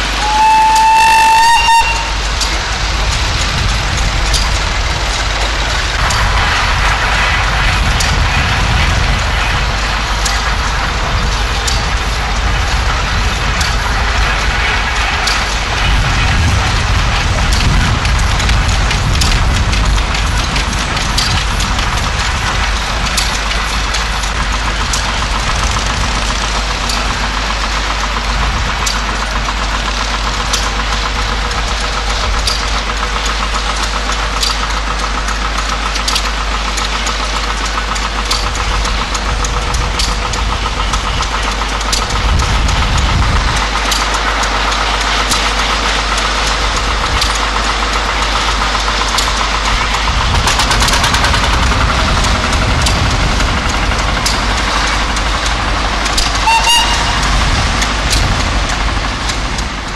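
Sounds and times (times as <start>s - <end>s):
steam engine knocking: 0.0s - 59.9s
tractor engine: 0.0s - 59.9s.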